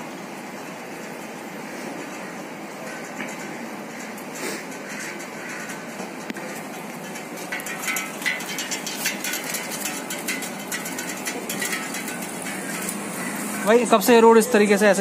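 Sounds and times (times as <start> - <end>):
steady street hiss: 0.0 - 15.0.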